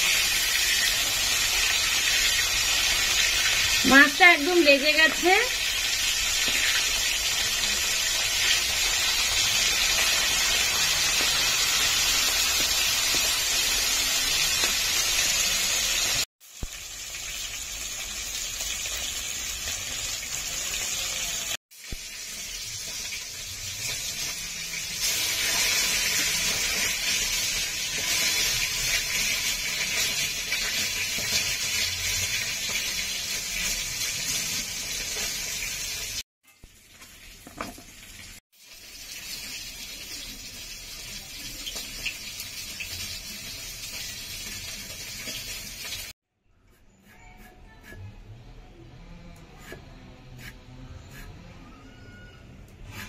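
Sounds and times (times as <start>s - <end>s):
fish sizzling in hot oil: 0.0s - 46.2s.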